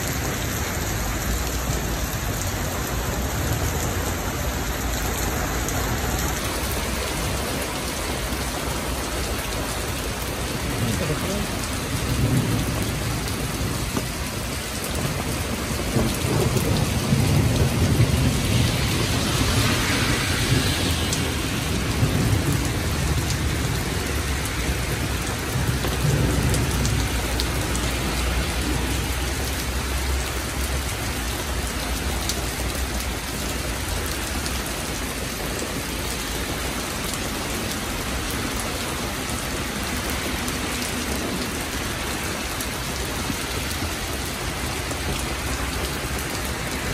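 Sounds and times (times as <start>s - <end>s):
heavy rain on pavement: 0.0s - 46.9s
low rumble of thunder: 0.1s - 46.8s.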